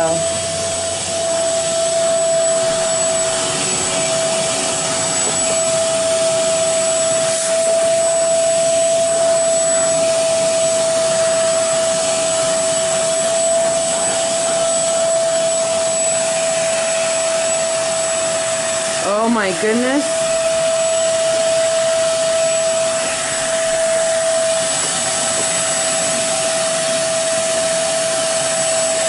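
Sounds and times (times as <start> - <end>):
carpet cleaner motor whine: 0.0 - 29.0
suction rushing: 0.0 - 29.0.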